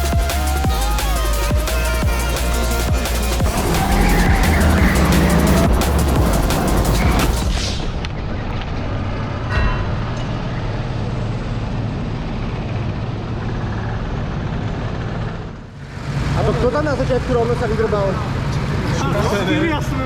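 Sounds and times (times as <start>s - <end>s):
go-kart engine rumble: 0.0s - 20.0s.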